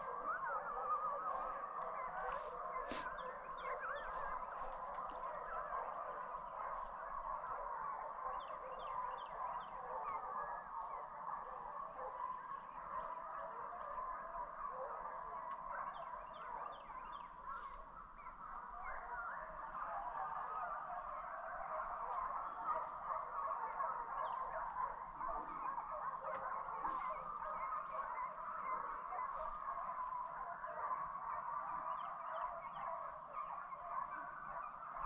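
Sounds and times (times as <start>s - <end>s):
pack of hounds baying: 0.0s - 35.0s.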